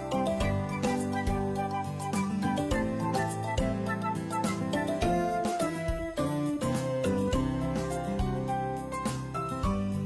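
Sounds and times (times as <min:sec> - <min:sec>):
instrumental background music: 0:00.0 - 0:10.0
piano notes over a beat: 0:00.0 - 0:10.0.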